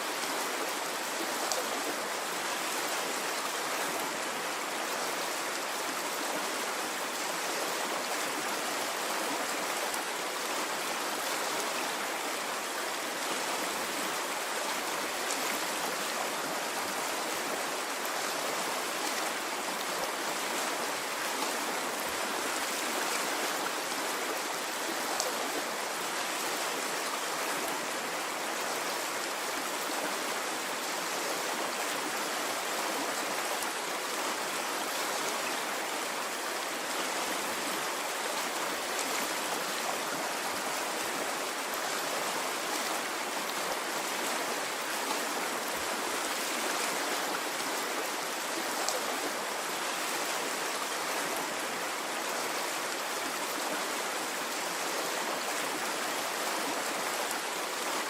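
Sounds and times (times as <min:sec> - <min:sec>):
stream of water flowing: 0:00.0 - 0:58.0.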